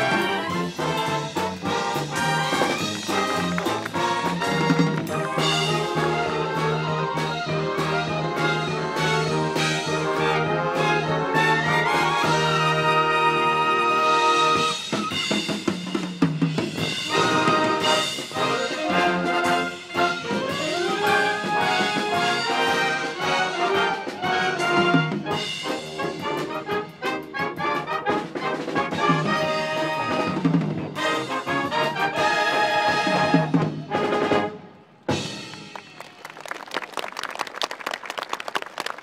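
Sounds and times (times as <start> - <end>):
marching band playing brass: 0.0 - 36.1
percussion: 0.0 - 39.0.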